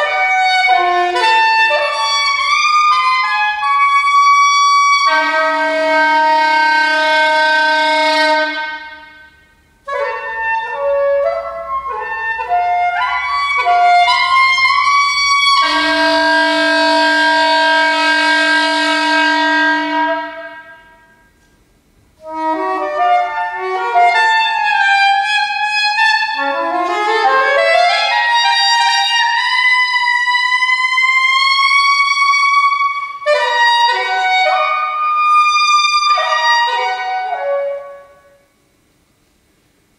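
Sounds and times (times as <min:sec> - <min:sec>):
solo saxophone: 0:00.0 - 0:21.6, 0:22.2 - 0:38.5.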